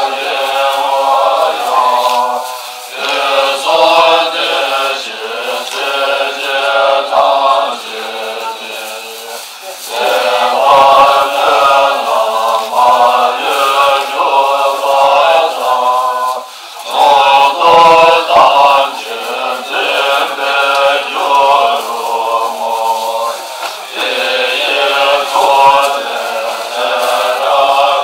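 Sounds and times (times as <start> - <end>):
group of voices chanting: 0.0 - 28.0.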